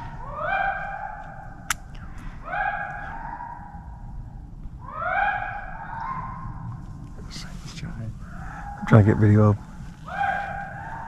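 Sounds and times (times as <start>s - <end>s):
hounds baying: 0.0s - 6.8s, 8.2s - 11.0s.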